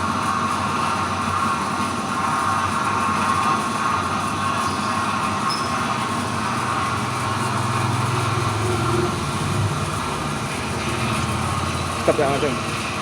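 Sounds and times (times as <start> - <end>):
fryer mixer running with hum: 0.0 - 13.0.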